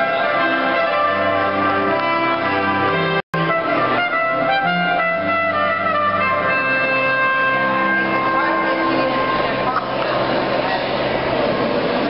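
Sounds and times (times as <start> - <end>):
instrumental music with long notes: 0.0 - 12.0
violin and cello playing: 0.0 - 12.0.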